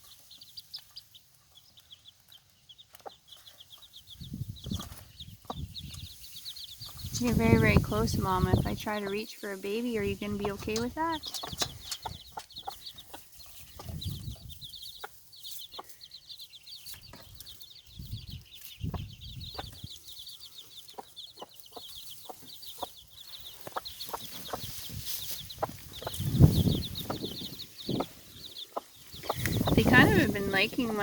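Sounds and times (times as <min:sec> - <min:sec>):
chicks peeping: 0:00.0 - 0:31.0
hen clucking: 0:00.0 - 0:31.0.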